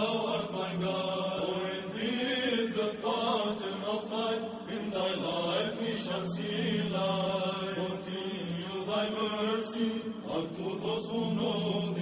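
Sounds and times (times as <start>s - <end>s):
held vocal drone: 0.0s - 12.0s
voices chanting: 0.0s - 12.0s.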